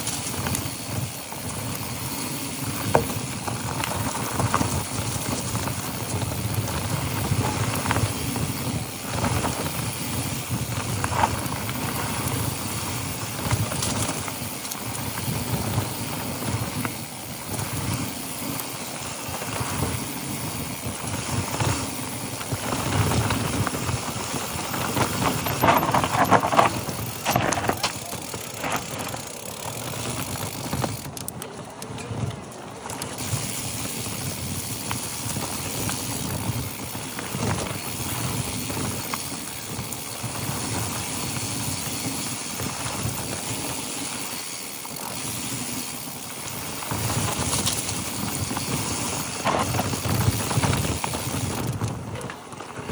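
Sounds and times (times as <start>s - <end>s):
bike rattling over bumps: 0.0s - 52.9s
bike tyres rolling over dirt: 0.0s - 52.9s.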